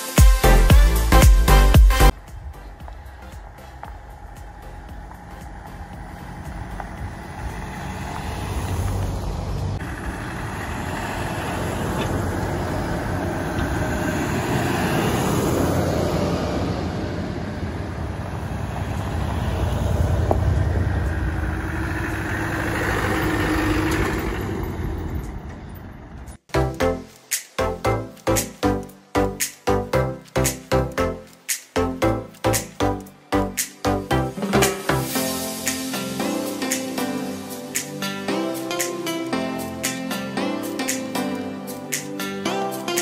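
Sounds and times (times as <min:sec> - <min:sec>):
tyres on rough track: 0:00.0 - 0:43.0
vehicle engine: 0:00.5 - 0:43.0.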